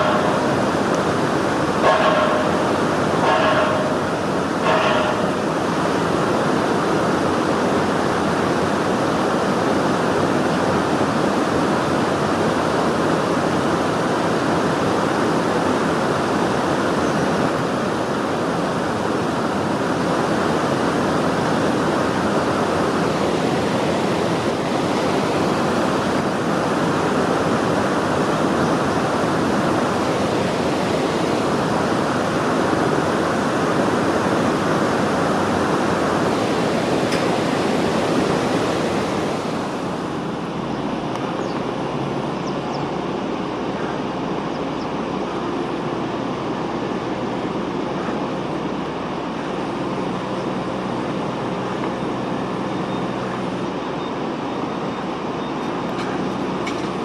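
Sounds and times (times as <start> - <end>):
river water rushing through weir: 0.0 - 57.0.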